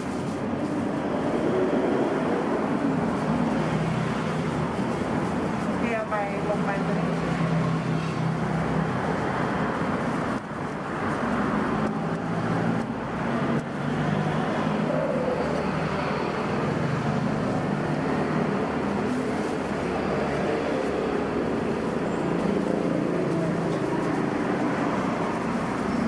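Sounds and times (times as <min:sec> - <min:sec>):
road traffic hum: 0:00.0 - 0:26.0.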